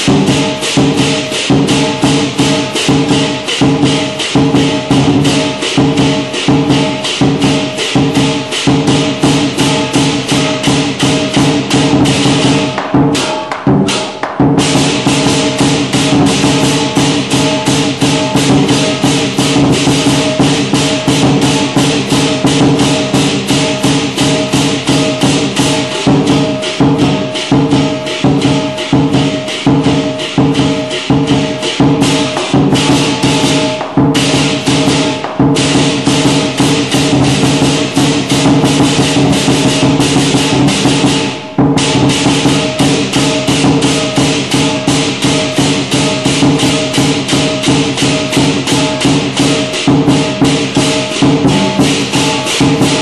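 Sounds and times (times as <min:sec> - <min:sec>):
cymbals crashing: 0:00.0 - 0:53.0
drum beating: 0:00.0 - 0:53.0
ringing gong: 0:00.0 - 0:53.0.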